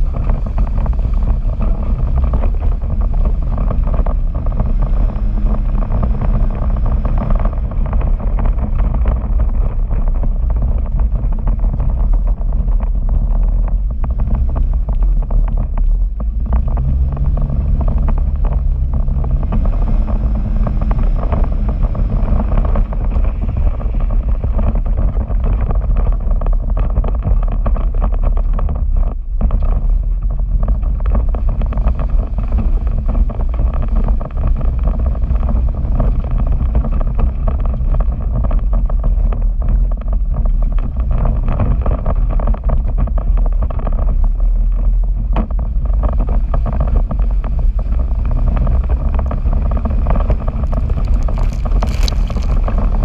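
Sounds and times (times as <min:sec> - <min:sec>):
off-road vehicle engine: 0:00.0 - 0:53.0
wind buffeting microphone: 0:00.0 - 0:53.0.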